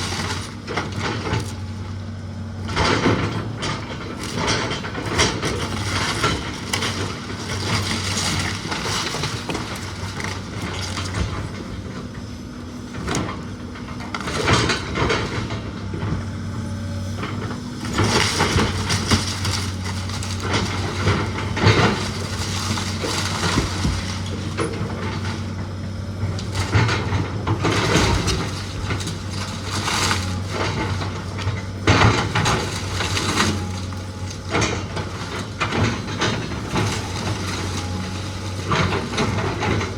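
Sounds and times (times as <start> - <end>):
heavy machine engine running: 0.0 - 39.9
wood cracking and crunching: 0.0 - 39.9.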